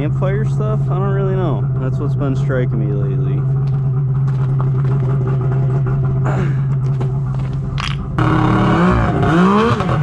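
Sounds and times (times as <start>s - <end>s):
snowmobile engine idling: 0.0s - 9.6s.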